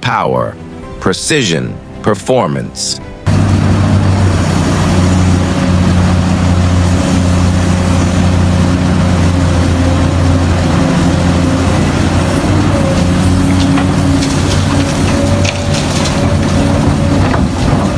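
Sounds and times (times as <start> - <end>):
heavy diesel engine droning: 0.0 - 17.9.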